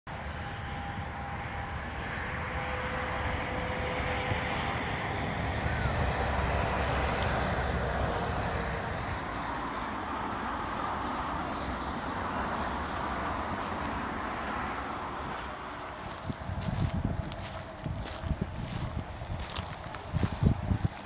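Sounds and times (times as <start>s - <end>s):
road noise hiss: 0.1s - 21.0s
truck engine rumble: 0.1s - 21.0s.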